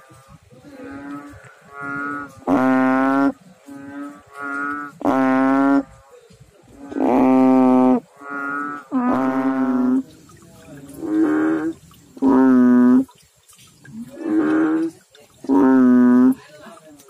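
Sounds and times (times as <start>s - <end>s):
frog calling: 0.0s - 6.0s, 6.8s - 16.4s.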